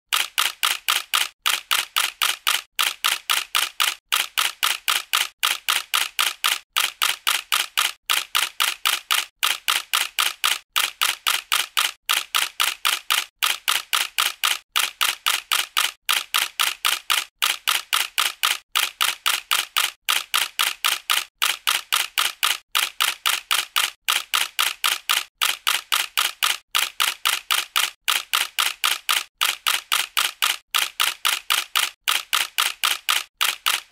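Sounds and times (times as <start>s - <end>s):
camera shutter clicking: 0.1s - 33.9s.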